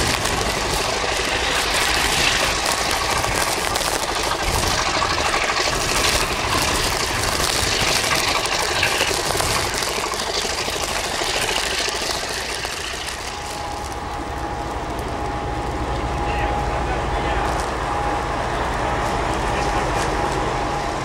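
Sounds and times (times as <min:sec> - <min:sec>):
locomotive engine rumbling: 0:00.0 - 0:21.0
thin steady whine: 0:00.0 - 0:21.0.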